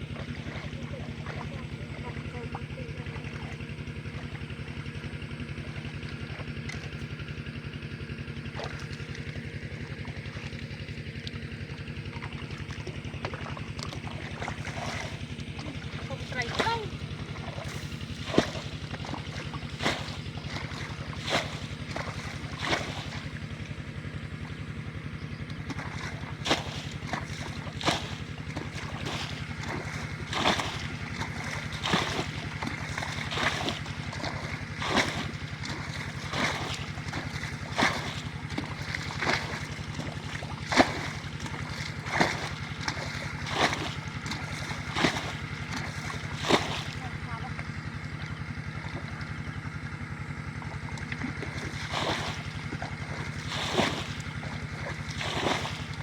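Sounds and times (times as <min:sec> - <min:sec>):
small engine running: 0:00.0 - 0:56.0
water slapping hull: 0:00.0 - 0:56.0.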